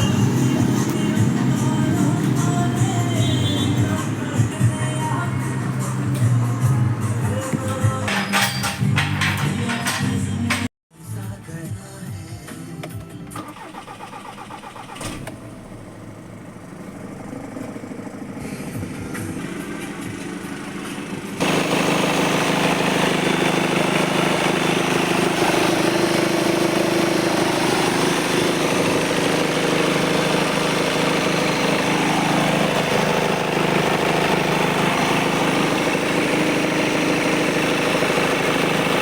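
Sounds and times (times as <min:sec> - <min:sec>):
diesel engine idling: 0:00.0 - 0:08.2, 0:13.4 - 0:39.0.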